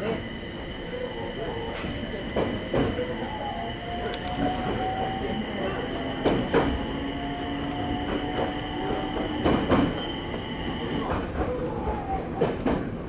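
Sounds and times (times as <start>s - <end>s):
electric train running whine: 0.0s - 12.8s.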